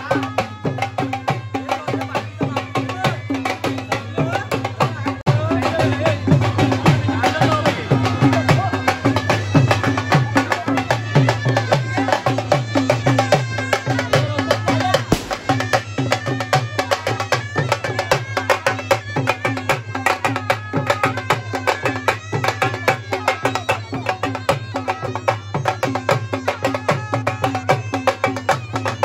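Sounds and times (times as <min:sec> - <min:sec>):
fast sharp drumming: 0:00.0 - 0:29.0.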